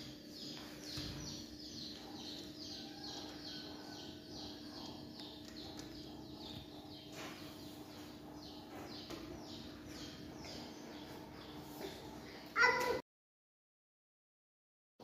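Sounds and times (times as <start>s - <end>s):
bird chirping: 0.0s - 12.9s.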